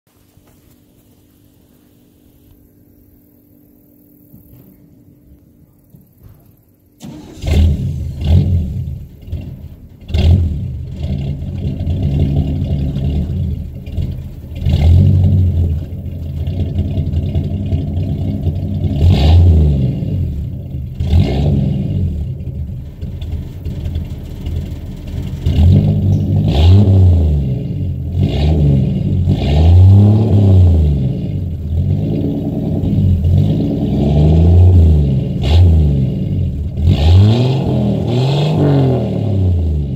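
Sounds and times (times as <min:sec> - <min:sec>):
engine starting and revving: 0:07.0 - 0:39.9.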